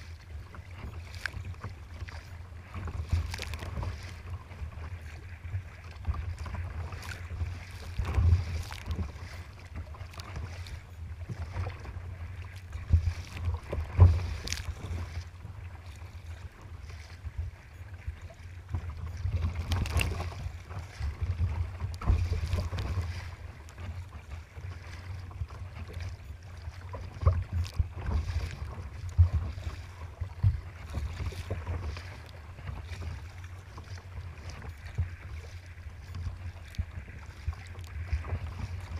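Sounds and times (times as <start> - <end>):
waves splashing against kayak: 0.0 - 38.9
wind buffeting microphone: 0.0 - 38.9.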